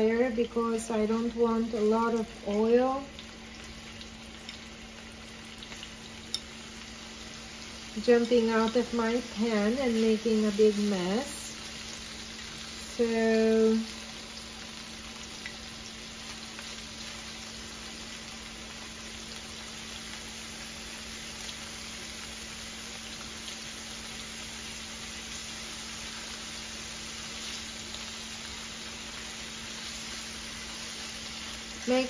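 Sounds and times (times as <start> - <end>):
fish sizzling in a frying pan: 0.0 - 32.0.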